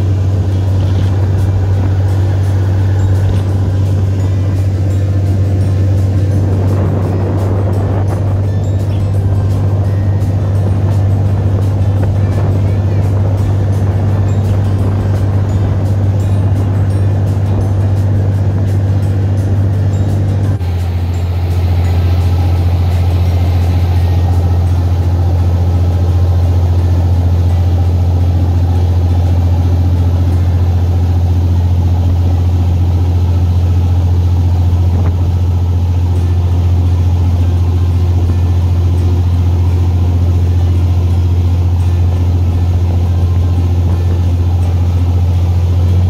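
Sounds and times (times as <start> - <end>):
motor boat engine droning: 0.0 - 46.0
water rushing: 0.0 - 46.0
wind: 0.0 - 46.0.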